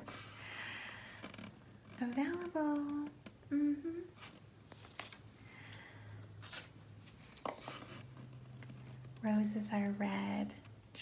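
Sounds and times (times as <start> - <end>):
faint low steady hum: 0.0 - 11.0.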